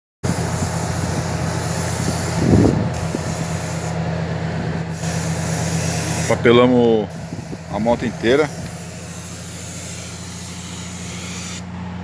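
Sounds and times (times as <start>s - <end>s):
paint spray gun hissing: 0.2s - 4.0s, 4.9s - 6.4s, 7.1s - 11.7s
motor hum: 0.2s - 12.0s.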